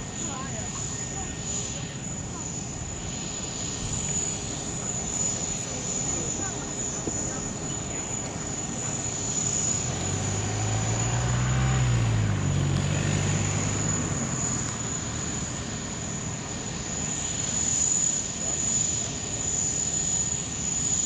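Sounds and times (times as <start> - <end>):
distant aircraft engine drone: 0.0 - 21.0.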